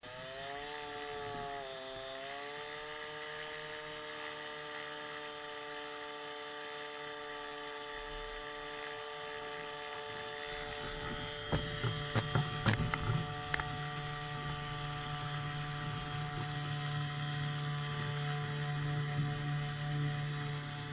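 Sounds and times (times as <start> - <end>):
small two-stroke engine running: 0.0 - 20.9.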